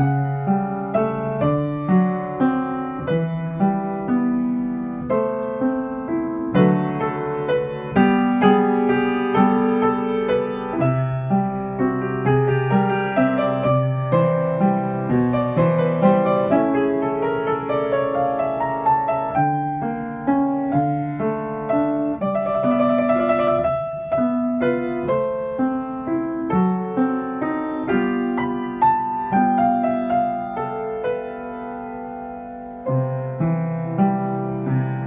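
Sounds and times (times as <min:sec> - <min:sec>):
upright piano playing: 0:00.0 - 0:35.0.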